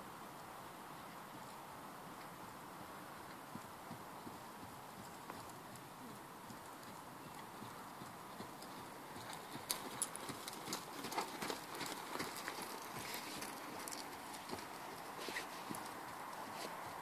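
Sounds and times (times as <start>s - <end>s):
horse hoofbeats on sand: 3.2s - 17.0s.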